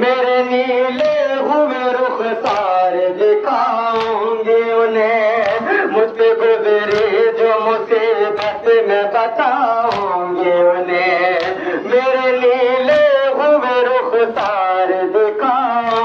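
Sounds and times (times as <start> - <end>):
men singing a lament: 0.0 - 16.0
open-hand chest beats: 0.4 - 16.0.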